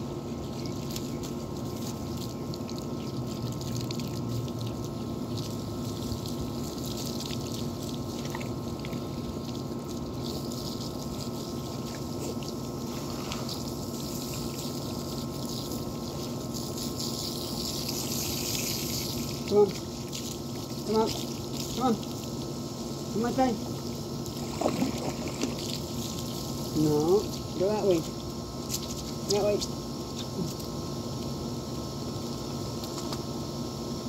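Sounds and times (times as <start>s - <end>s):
hose water spraying and splashing: 0.0s - 33.3s
low mechanical hum: 0.0s - 34.0s.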